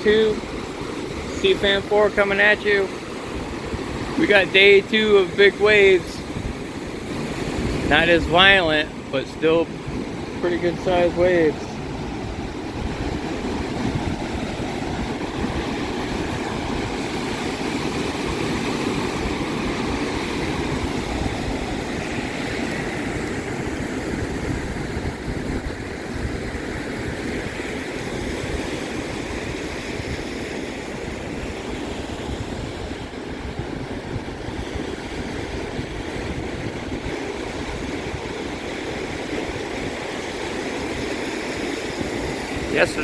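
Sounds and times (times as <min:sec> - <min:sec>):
waves breaking on shore: 0:00.0 - 0:43.0.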